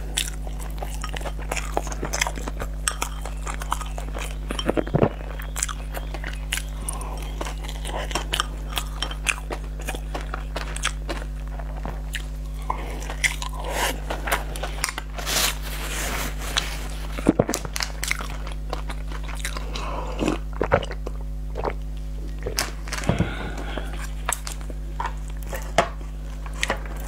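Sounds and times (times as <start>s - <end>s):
person chewing sticky rice: 0.0s - 27.0s.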